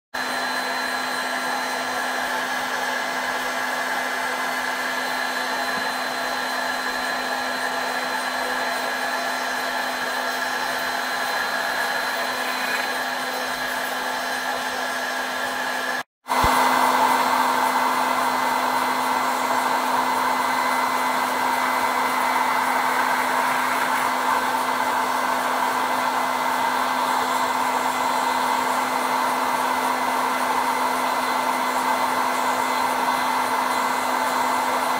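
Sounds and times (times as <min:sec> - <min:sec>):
spindle motor whine: 0:00.2 - 0:34.9.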